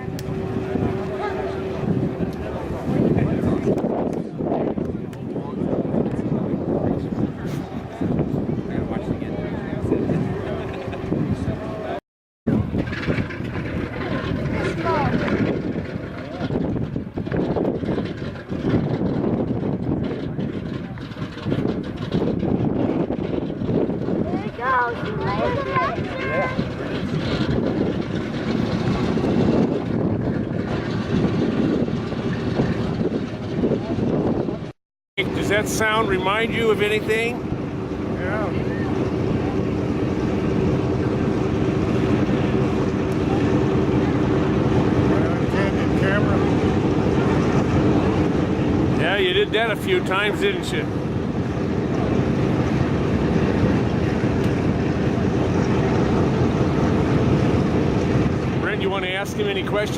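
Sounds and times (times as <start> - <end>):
radial aircraft engines rumbling: 0.0 - 59.9.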